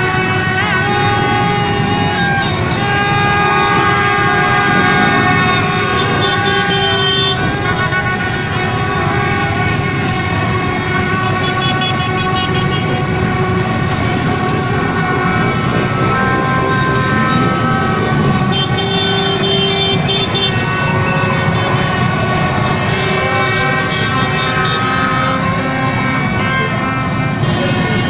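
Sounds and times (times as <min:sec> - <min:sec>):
traffic noise: 0:00.0 - 0:28.0
vehicle horns honking: 0:00.0 - 0:28.0.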